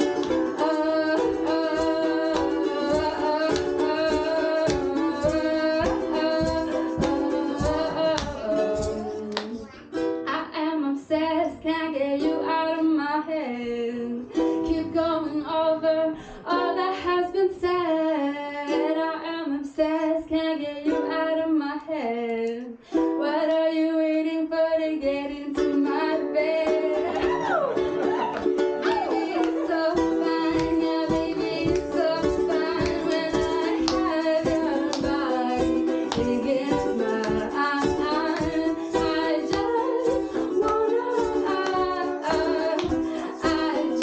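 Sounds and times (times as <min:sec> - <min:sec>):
plucked ukulele: 0:00.0 - 0:24.2, 0:25.0 - 0:44.0
woman singing: 0:00.0 - 0:44.0.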